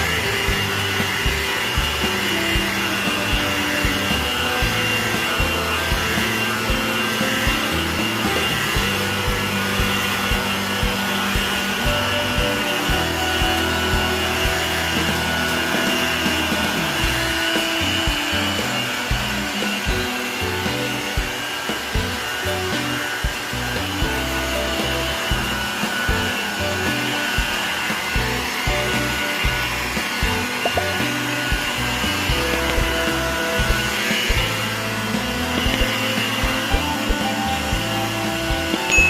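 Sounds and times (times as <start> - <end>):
background music: 0.0 - 39.0
electric polisher whining: 0.0 - 39.0.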